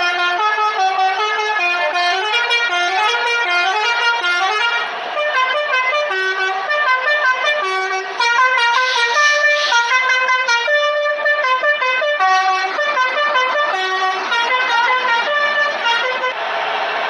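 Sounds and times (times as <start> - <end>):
multi-tone air horn melody: 0.0 - 16.4.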